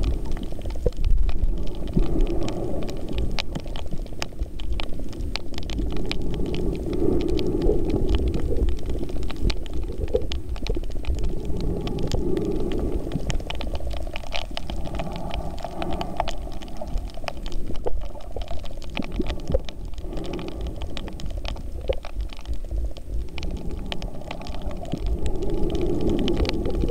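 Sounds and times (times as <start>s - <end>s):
underwater clicks and crackles: 0.0s - 26.9s
underwater rumble of moving water: 0.0s - 26.9s
water rushing: 1.2s - 26.9s.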